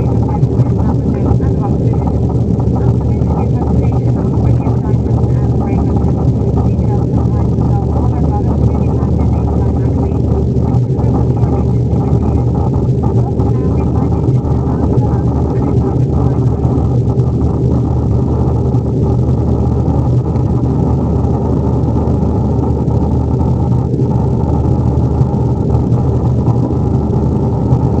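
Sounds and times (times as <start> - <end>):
jet engines in cabin: 0.0 - 28.0.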